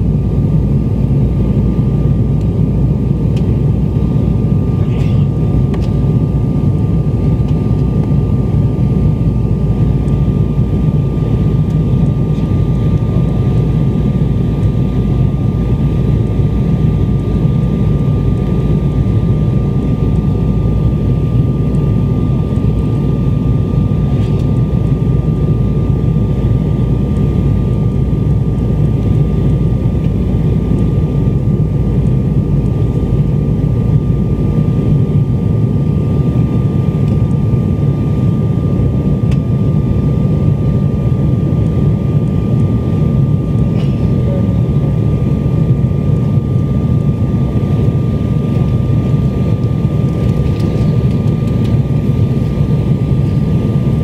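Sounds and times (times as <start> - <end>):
jet engine and airflow rumble: 0.0 - 54.0
thin steady whine: 0.0 - 54.0.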